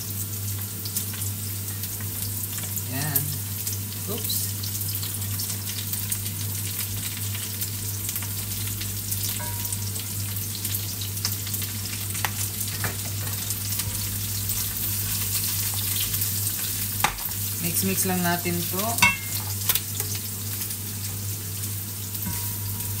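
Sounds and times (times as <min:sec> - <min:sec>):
carrots sizzling in frying oil: 0:00.0 - 0:23.0.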